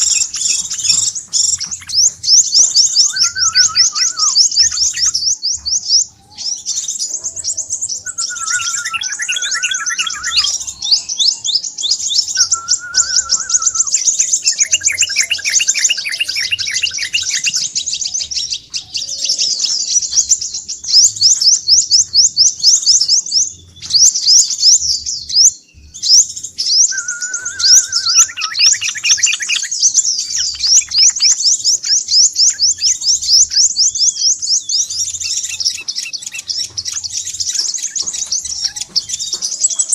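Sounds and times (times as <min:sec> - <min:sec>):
bird chirping trills: 0:00.0 - 0:39.9
bird twittering: 0:00.0 - 0:39.9.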